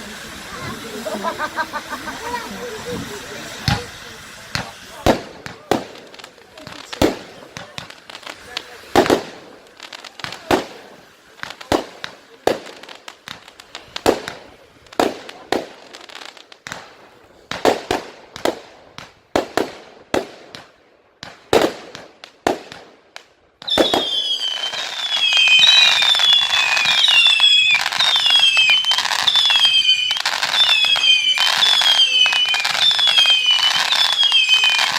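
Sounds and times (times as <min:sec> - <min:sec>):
firework bangs: 0:00.0 - 0:34.9
steady hiss: 0:00.0 - 0:34.9
whistling fireworks: 0:00.0 - 0:34.9.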